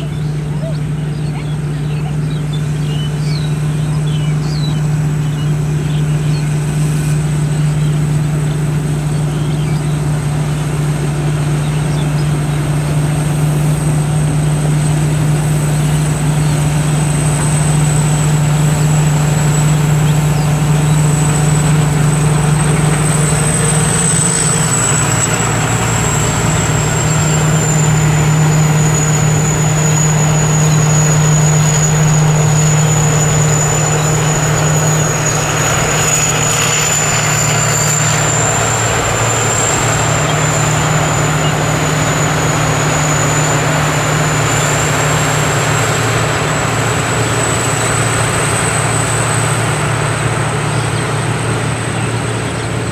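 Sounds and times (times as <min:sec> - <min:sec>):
harvester engine droning: 0:00.0 - 0:52.9
high whine: 0:00.0 - 0:52.9.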